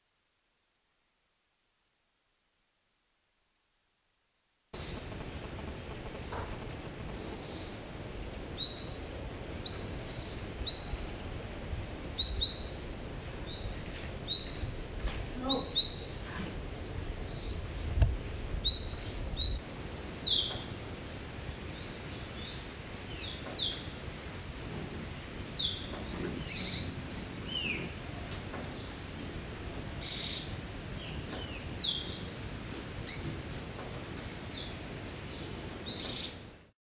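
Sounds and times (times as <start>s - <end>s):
faint steady background noise: 0.0s - 36.7s.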